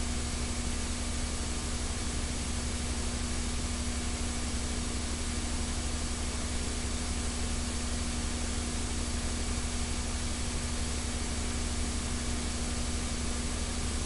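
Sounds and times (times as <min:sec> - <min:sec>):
low electrical hum: 0:00.0 - 0:14.0
steady recording hiss: 0:00.0 - 0:14.0.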